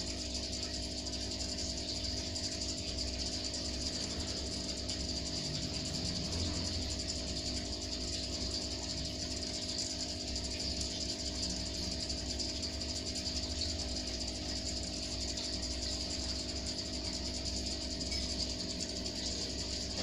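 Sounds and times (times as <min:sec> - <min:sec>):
aquarium pump hum: 0:00.0 - 0:20.0.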